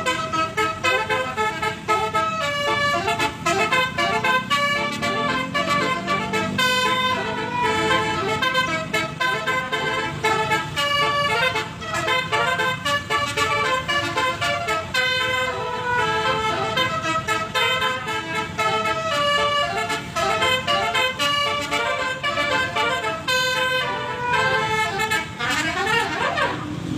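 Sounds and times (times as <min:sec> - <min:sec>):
multi-tone vehicle horn playing tune: 0:00.0 - 0:26.9.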